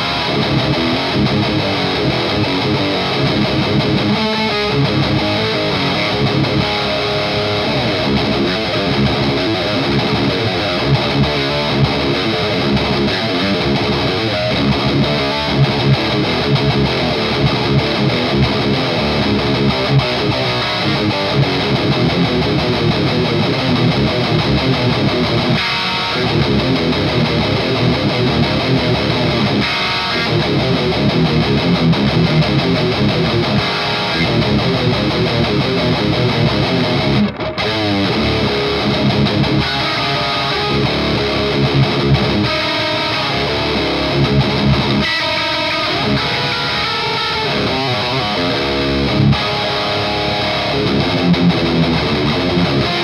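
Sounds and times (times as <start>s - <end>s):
distorted electric guitar riffs: 0.0s - 53.0s.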